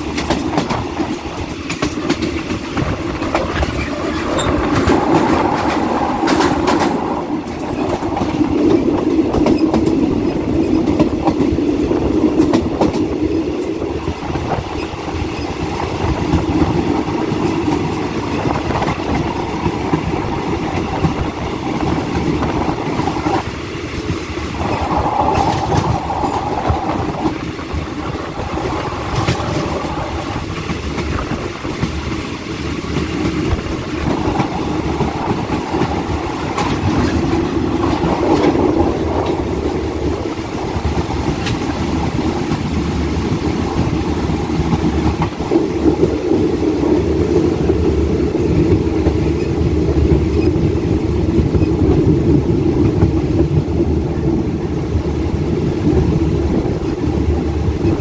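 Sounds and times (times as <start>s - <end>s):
wheels clicking over rail joints: 0.0s - 54.4s
train wheels rumbling on rails: 0.0s - 58.0s.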